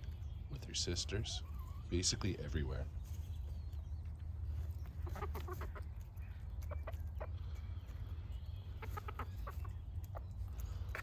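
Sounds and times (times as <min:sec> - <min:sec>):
hens clucking: 0:00.6 - 0:11.0.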